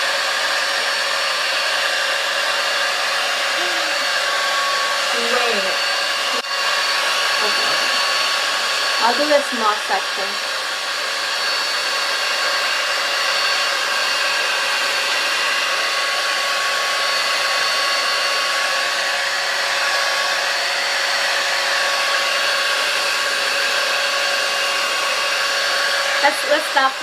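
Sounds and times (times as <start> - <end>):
hot air styler blowing: 0.0 - 27.0.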